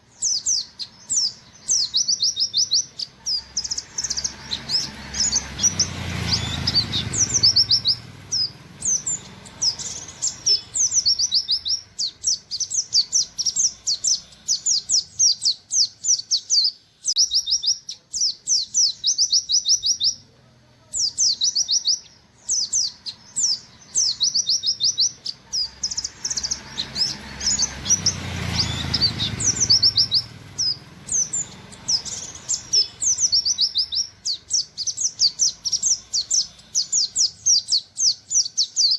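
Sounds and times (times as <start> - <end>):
bird singing rapid notes: 0.0 - 38.9.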